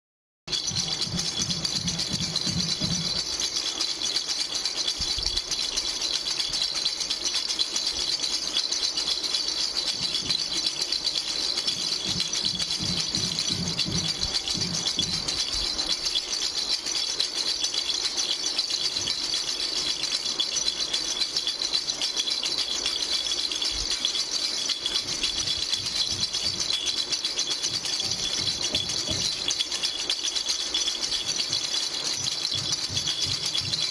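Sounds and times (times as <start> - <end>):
baby rattle shaking: 0.5 - 33.9.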